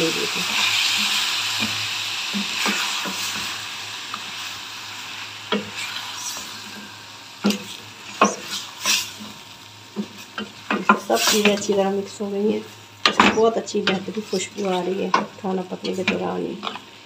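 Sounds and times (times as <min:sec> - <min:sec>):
curry sizzling in a pot: 0:00.0 - 0:17.0.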